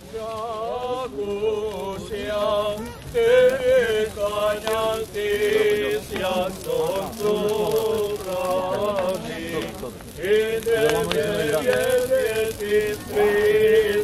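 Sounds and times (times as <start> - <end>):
voices singing church chant: 0.0 - 14.0.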